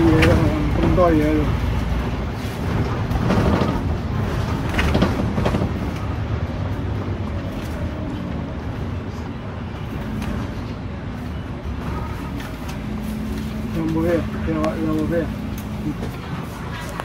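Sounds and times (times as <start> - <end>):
bus diesel engine and road noise: 0.0 - 17.0.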